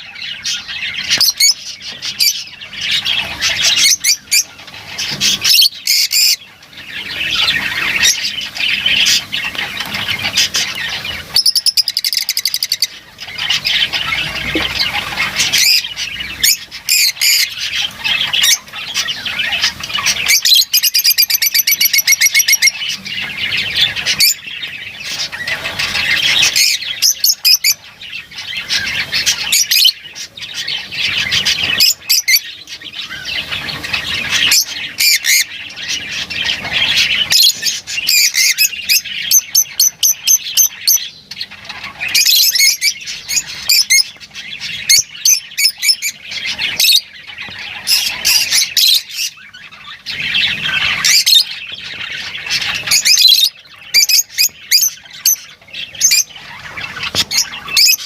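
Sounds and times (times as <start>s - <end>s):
lovebirds chattering and squawking: 0.0s - 58.0s.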